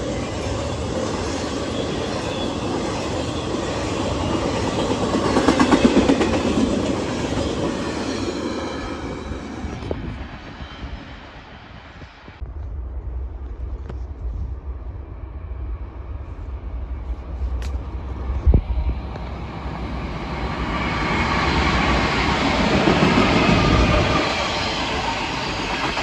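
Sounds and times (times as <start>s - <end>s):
train rumbling and rolling: 0.0s - 26.0s.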